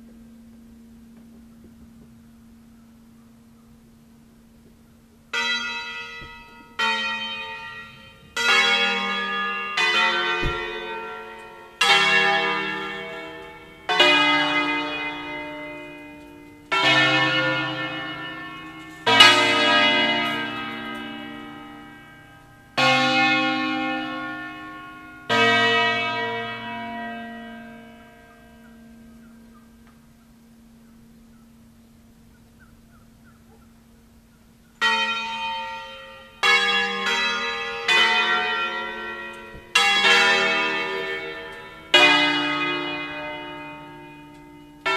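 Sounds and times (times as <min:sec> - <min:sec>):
church bells ringing: 0:00.0 - 0:44.9.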